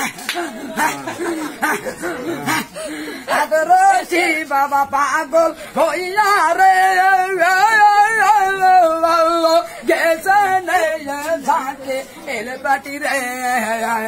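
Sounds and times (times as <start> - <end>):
man singing in a high voice: 0.0 - 14.0.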